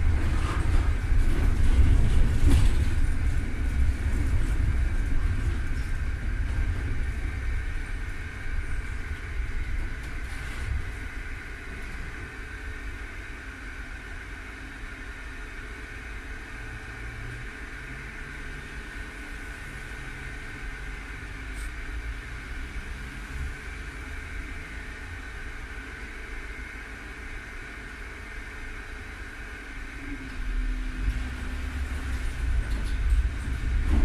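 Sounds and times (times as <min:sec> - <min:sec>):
low traffic rumble: 0:00.0 - 0:34.0
tram equipment hum and whine: 0:00.0 - 0:34.0.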